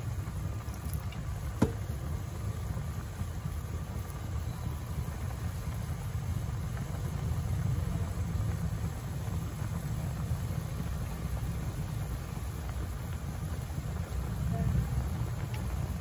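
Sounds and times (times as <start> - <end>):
sauce bubbling in a pan: 0.0 - 16.0.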